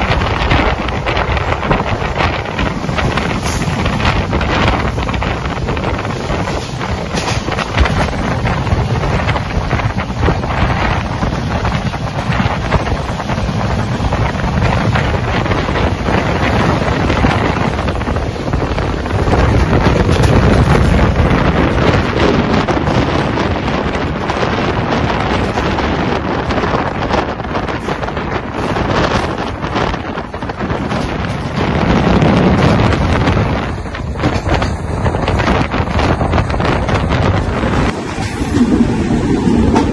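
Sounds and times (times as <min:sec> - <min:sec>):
train coaches running on track: 0:00.0 - 0:39.9
wind rushing over microphone: 0:00.0 - 0:39.9.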